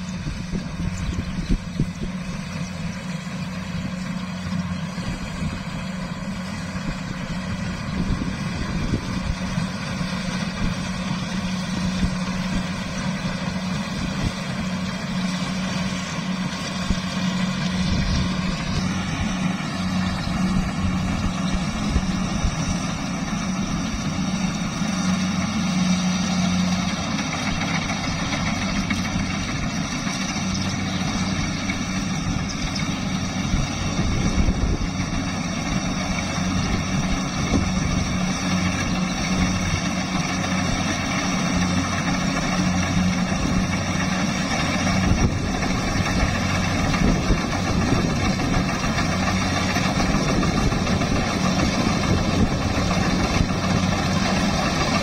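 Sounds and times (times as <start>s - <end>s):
combine harvester engine running: 0.0s - 55.0s
mechanical whine: 0.0s - 55.0s.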